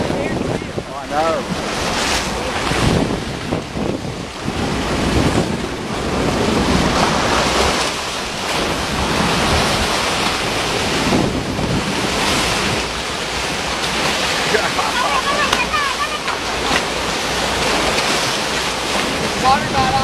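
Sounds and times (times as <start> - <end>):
sea water surging and splashing: 0.0 - 20.0
wind buffeting microphone: 0.0 - 20.0.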